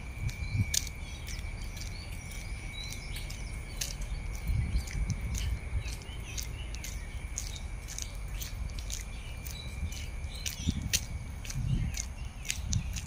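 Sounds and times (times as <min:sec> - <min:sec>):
high bird chirps: 0:00.3 - 0:13.0.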